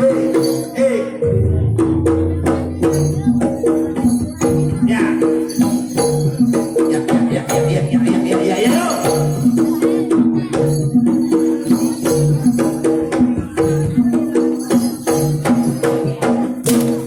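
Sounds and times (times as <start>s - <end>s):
drum strokes: 0.0s - 17.0s
jingling percussion: 0.0s - 17.0s.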